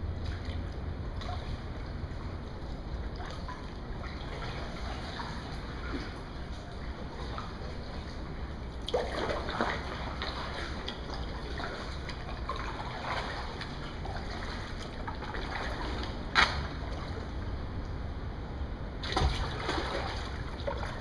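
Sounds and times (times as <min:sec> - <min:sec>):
paddle splashing water: 0:00.2 - 0:17.4, 0:19.0 - 0:21.0.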